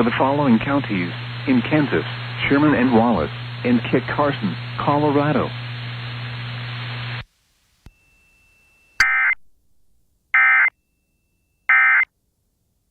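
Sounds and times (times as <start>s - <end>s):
broadcast static with low hum: 0.0s - 10.8s.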